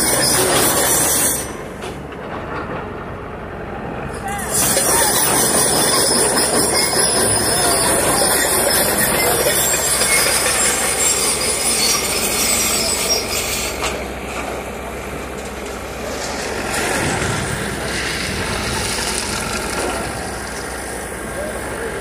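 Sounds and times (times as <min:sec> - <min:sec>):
diesel engine rumble: 0:00.0 - 0:22.0
train rolling on track: 0:00.0 - 0:22.0.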